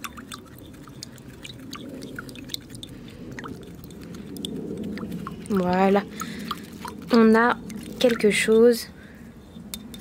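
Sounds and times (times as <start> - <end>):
small liquid sounds: 0.0 - 8.8
stick stirring liquid in glass: 0.0 - 8.8, 9.5 - 10.0.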